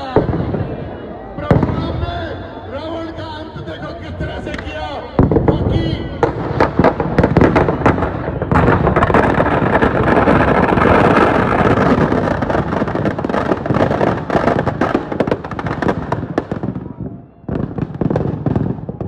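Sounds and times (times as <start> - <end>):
firecrackers banging and crackling: 0.0 - 2.5, 4.2 - 19.0.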